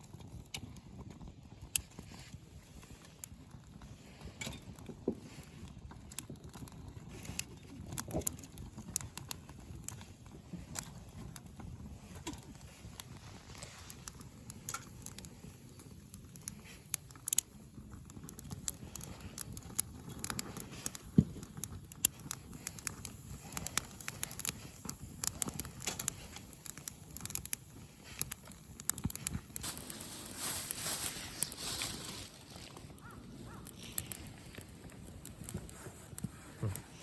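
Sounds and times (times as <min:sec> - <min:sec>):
twig fire crackling: 0:00.0 - 0:37.0.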